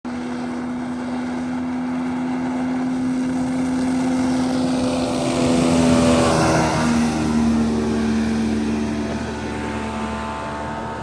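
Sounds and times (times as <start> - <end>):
outboard motor running: 0.1 - 11.0.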